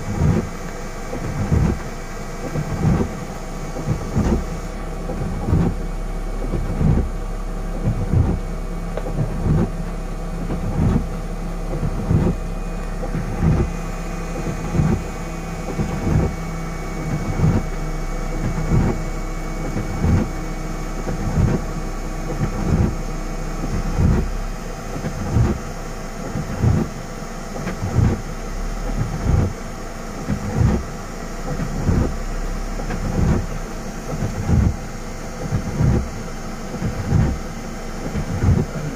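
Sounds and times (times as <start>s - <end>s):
engine running: 0.0s - 38.9s
rain on vehicle: 0.0s - 38.9s
windscreen wipers thumping: 0.0s - 38.9s.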